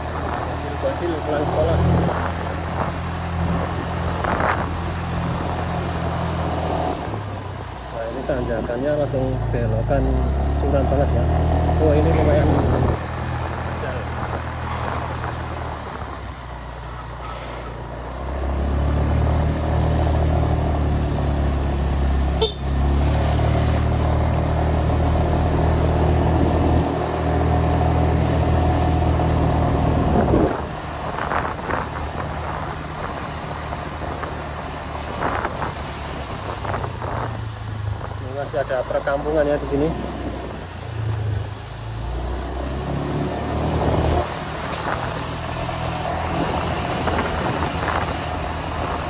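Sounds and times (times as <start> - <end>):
vehicle engine under load: 0.0 - 49.0.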